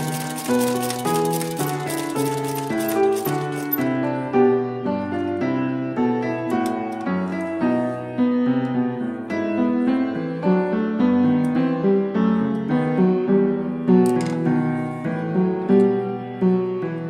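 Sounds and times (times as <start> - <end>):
instrumental music: 0.0 - 17.0.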